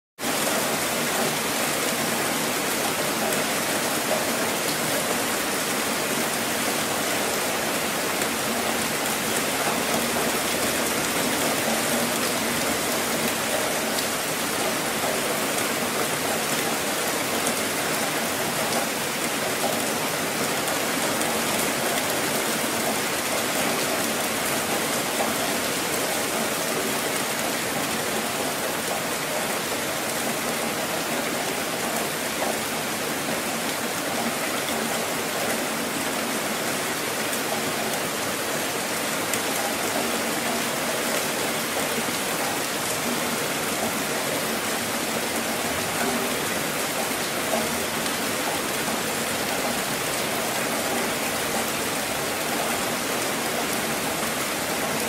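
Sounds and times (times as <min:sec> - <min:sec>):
steady rain falling: 0:00.2 - 0:55.0.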